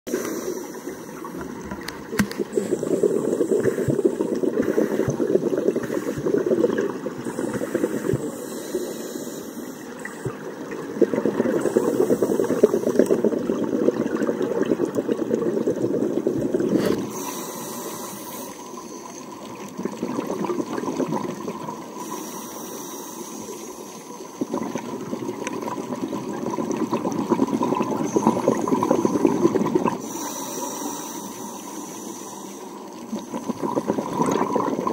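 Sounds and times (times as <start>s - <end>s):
underwater regulator bubbles: 0.1s - 34.9s.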